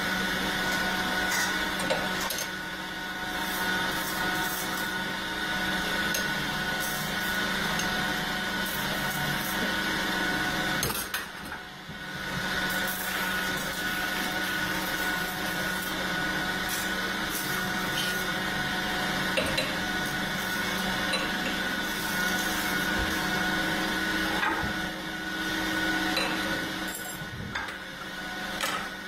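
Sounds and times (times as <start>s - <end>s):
metal-spinning lathe whine: 0.0s - 29.0s.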